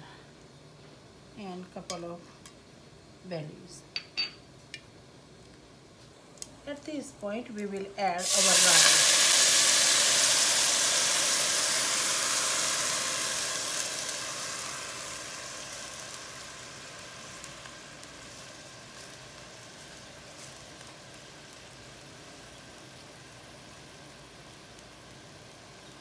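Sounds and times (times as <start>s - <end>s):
rice sizzling in a pan: 0.9s - 26.0s.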